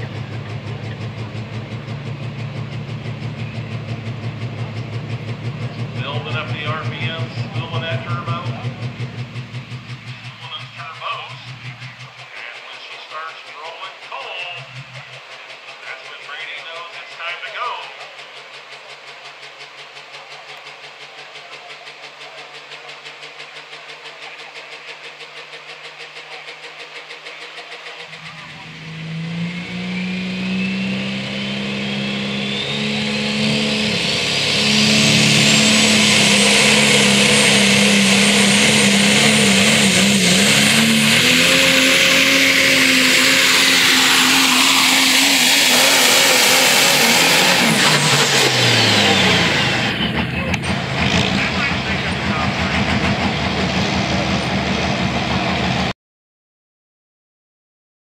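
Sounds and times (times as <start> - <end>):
diesel pickup engine revving: 0.0 - 55.9
turbocharger whistle: 5.6 - 18.0, 18.8 - 55.9.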